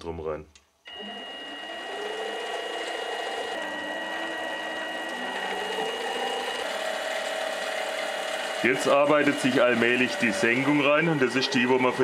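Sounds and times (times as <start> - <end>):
drill cutting into metal: 0.9 - 12.0
lathe whining: 0.9 - 12.0.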